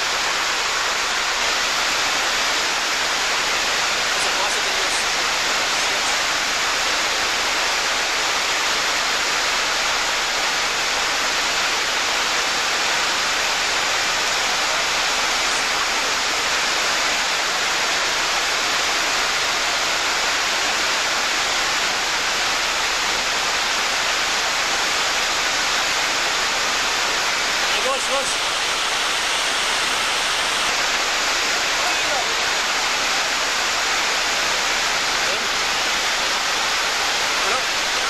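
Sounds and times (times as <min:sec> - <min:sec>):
water rushing over weir: 0:00.0 - 0:38.0.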